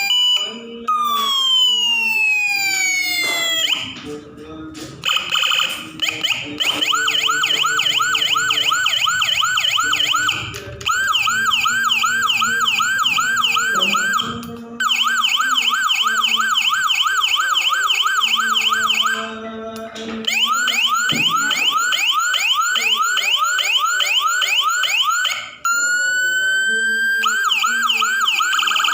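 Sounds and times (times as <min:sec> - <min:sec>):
electronic siren sweeping tones: 0:00.0 - 0:04.0, 0:05.0 - 0:19.4, 0:20.3 - 0:28.9.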